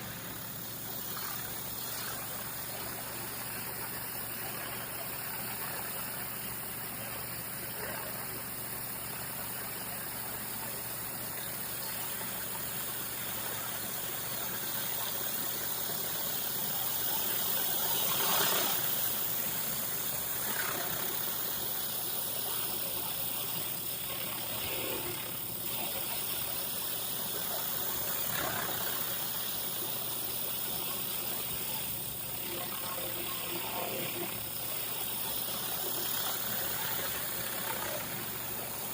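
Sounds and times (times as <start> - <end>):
high-pressure water spray: 0.0 - 38.9
pressure washer engine drone: 0.0 - 38.9.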